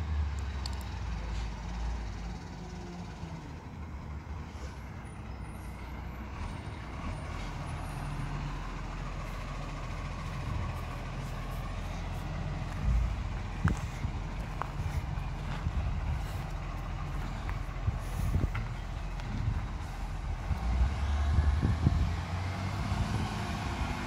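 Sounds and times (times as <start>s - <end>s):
garbage truck engine running: 0.0s - 24.0s.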